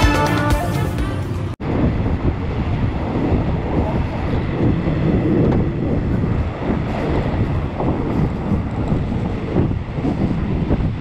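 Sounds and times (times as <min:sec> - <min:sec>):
train rumbling and rattling: 0:01.0 - 0:11.0
wind on microphone: 0:01.6 - 0:11.0.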